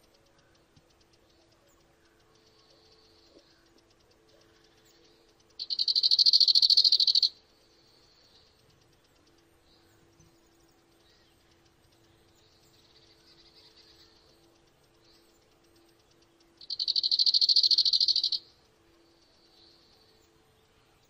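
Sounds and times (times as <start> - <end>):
faint low hum: 0.0 - 21.0
insect trilling: 0.3 - 9.4, 11.0 - 19.9.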